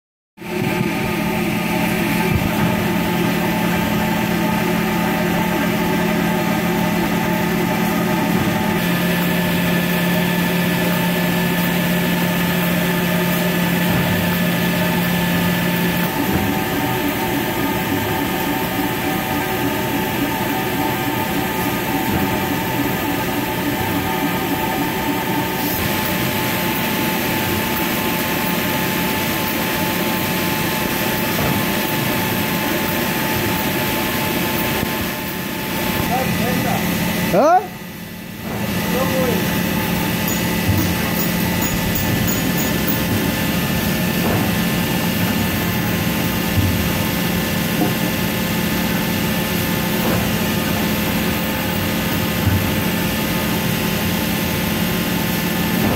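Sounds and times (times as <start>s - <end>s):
steady machine drone: 0.4s - 55.9s.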